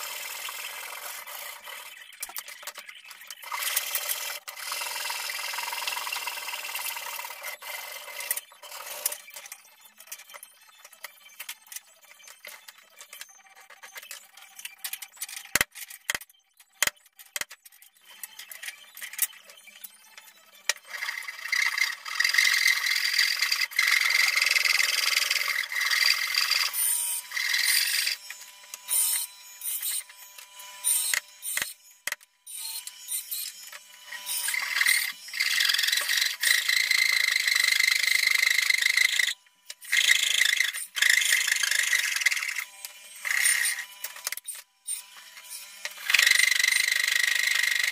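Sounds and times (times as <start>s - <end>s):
woodworking tool squealing: 0.0s - 15.5s, 18.0s - 47.9s.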